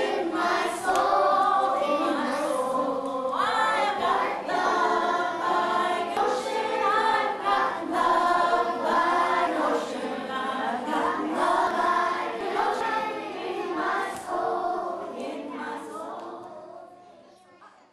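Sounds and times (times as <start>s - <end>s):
children singing in unison: 0.0s - 17.5s.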